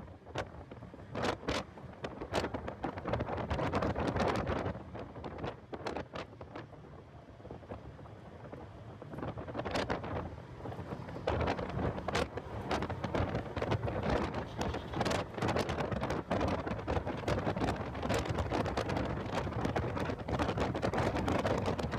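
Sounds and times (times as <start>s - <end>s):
wind buffeting microphone: 0.0s - 21.9s
car running noise: 0.1s - 21.9s.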